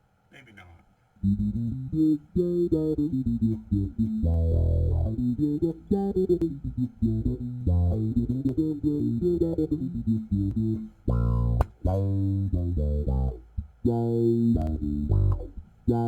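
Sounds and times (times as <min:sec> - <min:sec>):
electric bass with envelope filter: 0:01.2 - 0:16.0.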